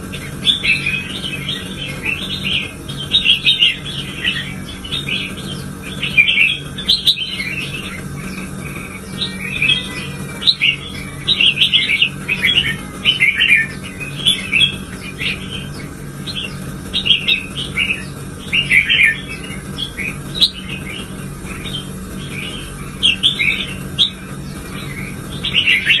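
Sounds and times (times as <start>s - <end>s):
bird chirping: 0.0s - 26.0s
steady low hum: 0.0s - 26.0s.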